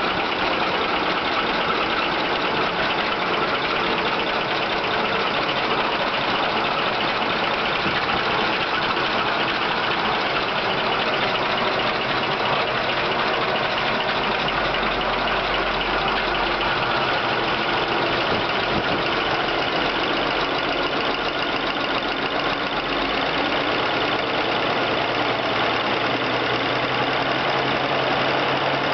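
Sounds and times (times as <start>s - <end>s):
engine idling: 0.0s - 28.9s.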